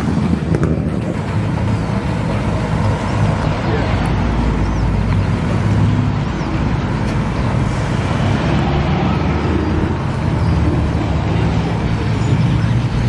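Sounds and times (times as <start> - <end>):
car engines rumbling: 0.0 - 13.0
road noise: 0.0 - 13.0.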